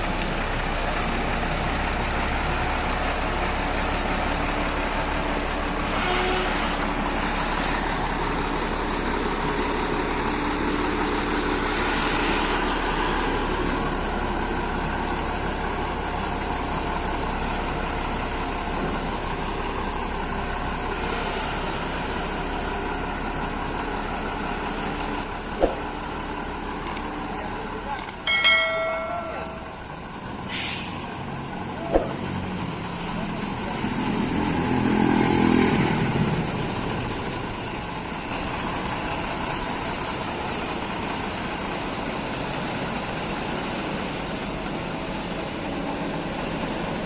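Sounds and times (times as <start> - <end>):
heavy truck engine running: 0.0 - 47.0
road and traffic noise: 0.0 - 47.0.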